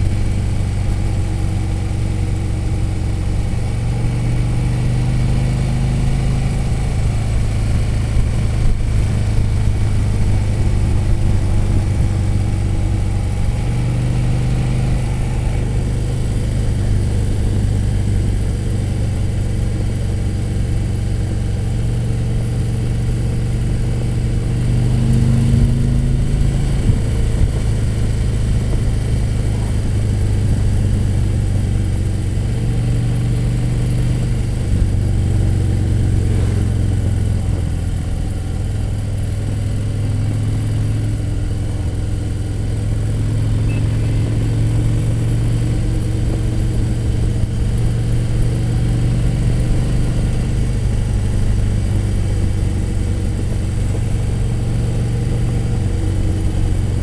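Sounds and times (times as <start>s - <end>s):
motorcycle engine cruising: 0.0s - 57.0s
road and wind noise: 0.0s - 57.0s.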